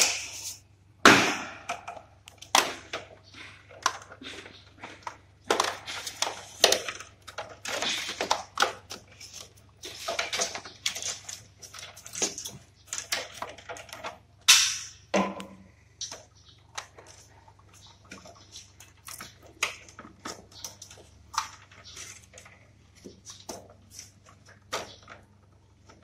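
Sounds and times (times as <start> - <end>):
plastic parts and cables handled: 1.9 - 14.3, 15.4 - 26.0.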